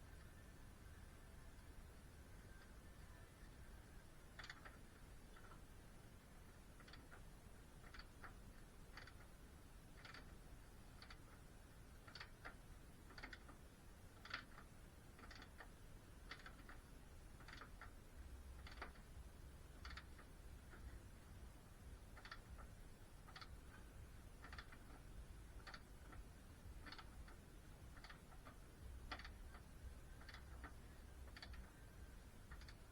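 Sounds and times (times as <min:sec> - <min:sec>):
faint regular ticking: 0:01.5 - 0:32.9.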